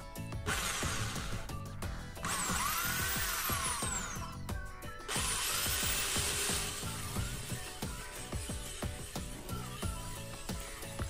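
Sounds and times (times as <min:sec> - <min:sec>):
electric drill whine: 0:00.4 - 0:04.4, 0:05.1 - 0:11.0.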